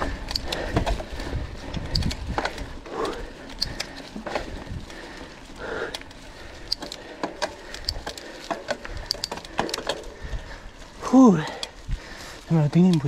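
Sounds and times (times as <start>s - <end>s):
bike clicks and knocks: 0.0s - 10.8s, 11.4s - 13.0s
tyre and ground noise: 0.0s - 13.0s.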